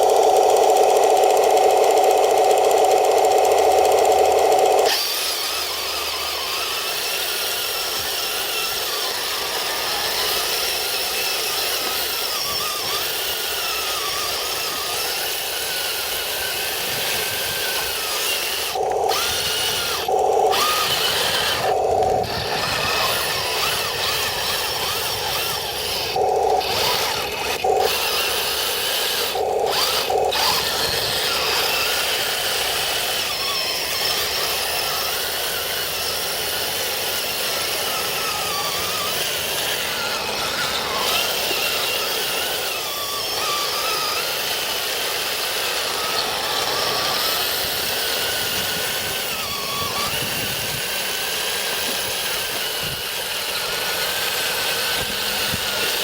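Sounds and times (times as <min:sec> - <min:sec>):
toy tank motor and gear whine: 0:00.0 - 0:56.0
tracks rattling: 0:00.0 - 0:56.0.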